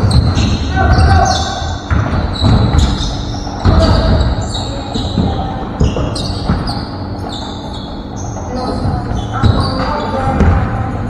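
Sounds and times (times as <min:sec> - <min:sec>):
basketball bouncing on floor: 0:00.0 - 0:10.8
sneakers squeaking on court: 0:00.0 - 0:10.9.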